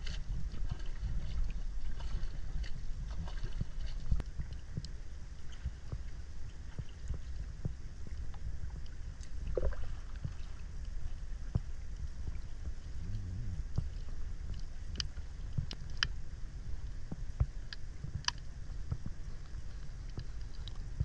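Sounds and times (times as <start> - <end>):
low uneven rumble: 0.0 - 21.0
water lapping and sloshing: 0.0 - 21.0.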